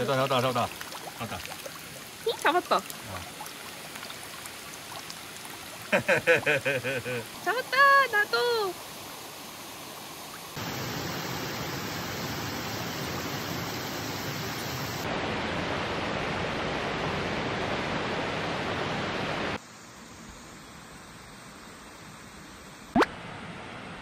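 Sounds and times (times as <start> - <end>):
stream rushing over stones: 0.0 - 19.6.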